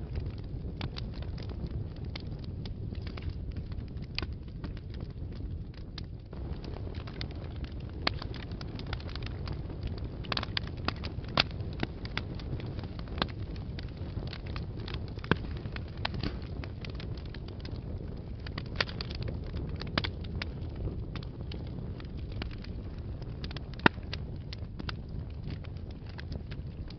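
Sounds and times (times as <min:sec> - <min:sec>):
wood fire burning: 0:00.0 - 0:26.9.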